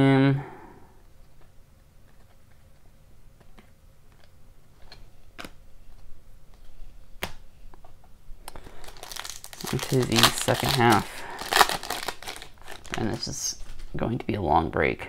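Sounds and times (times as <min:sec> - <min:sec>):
cards being flipped: 0:01.2 - 0:14.0.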